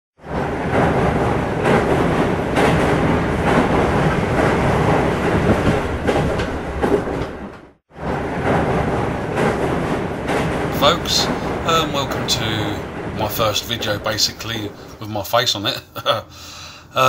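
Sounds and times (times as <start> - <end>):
train wheels rattling on rails: 0.2 - 15.8.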